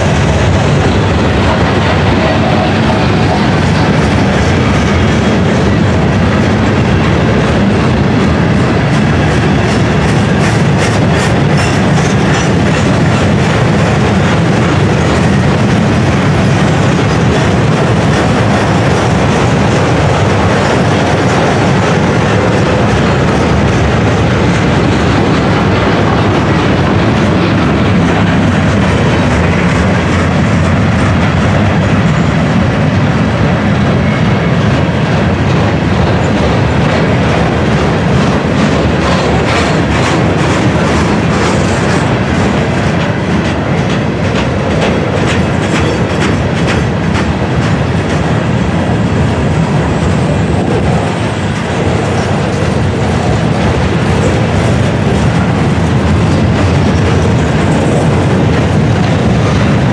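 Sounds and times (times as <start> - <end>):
freight train rumbling past: 0.0 - 59.9
wheels clickety-clack: 0.0 - 59.9.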